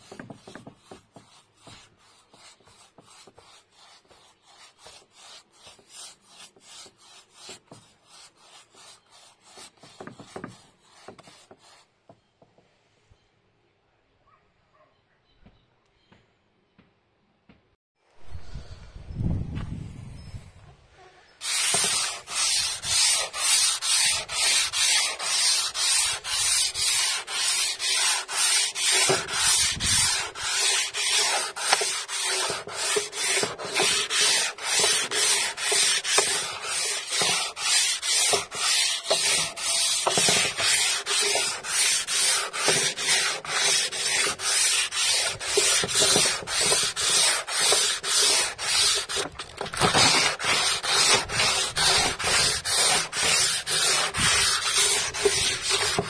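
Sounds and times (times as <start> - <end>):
sandpaper rasping on wood: 0.0 - 11.9, 21.4 - 56.0.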